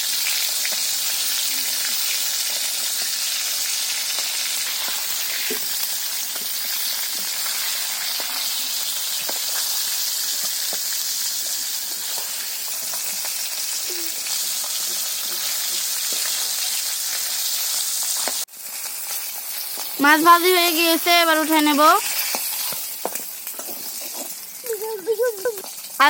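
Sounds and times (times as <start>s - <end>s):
fish sizzling in hot oil: 0.0s - 26.0s
oil crackles: 0.0s - 26.0s.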